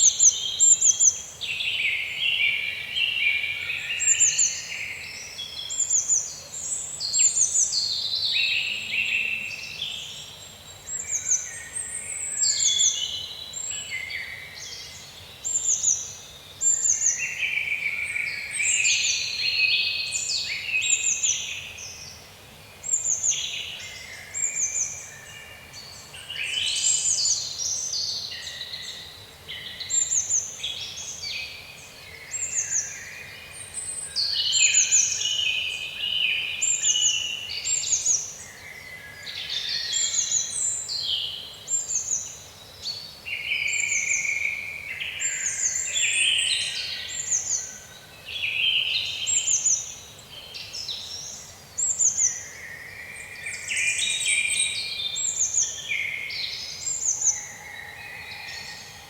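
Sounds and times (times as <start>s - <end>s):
faint steady background hiss: 0.0s - 59.0s
songbirds singing: 0.0s - 59.0s.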